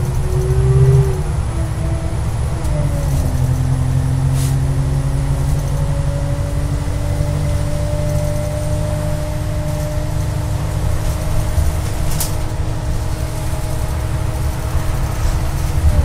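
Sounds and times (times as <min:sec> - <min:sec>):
diesel bus engine rumbling: 0:00.0 - 0:16.0
transmission whine: 0:00.0 - 0:16.0.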